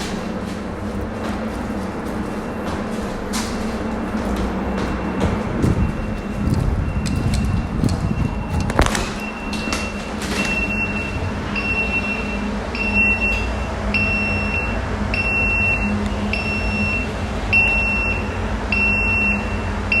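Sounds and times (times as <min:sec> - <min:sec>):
steady low hum: 0:00.0 - 0:20.0
gas alarm beeping: 0:03.9 - 0:20.0.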